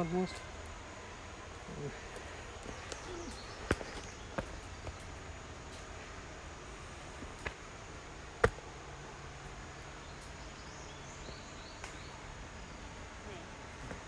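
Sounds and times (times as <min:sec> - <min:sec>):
low woodland background: 0:00.0 - 0:14.0.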